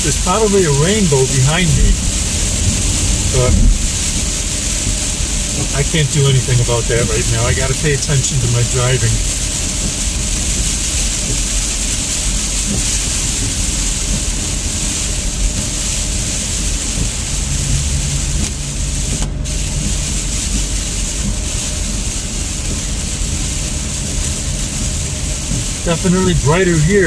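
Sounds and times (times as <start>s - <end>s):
low road rumble: 0.0s - 27.0s
rain and tyre spray hiss: 0.0s - 27.0s.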